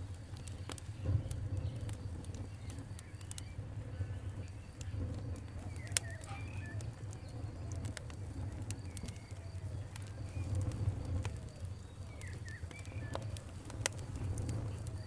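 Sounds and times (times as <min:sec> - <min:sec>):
fire pops and snaps: 0:00.0 - 0:15.0
low rumble of flames: 0:00.0 - 0:15.0.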